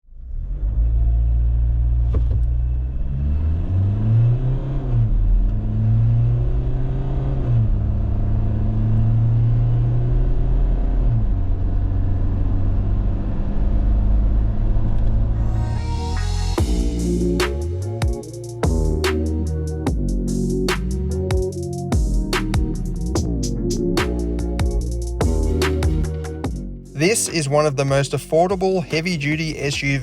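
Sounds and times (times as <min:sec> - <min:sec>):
diesel engine accelerating: 0:00.1 - 0:30.0.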